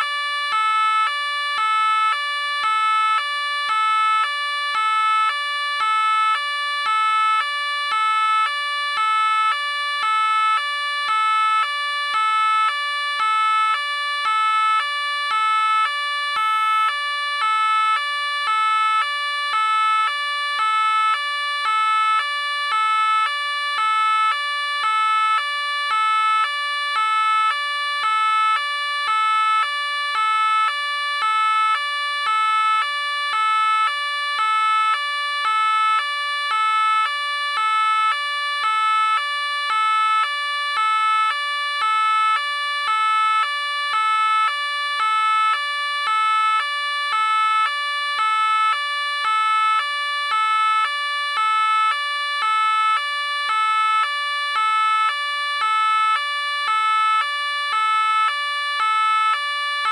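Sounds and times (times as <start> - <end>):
police car two-tone siren: 0.0 - 59.9.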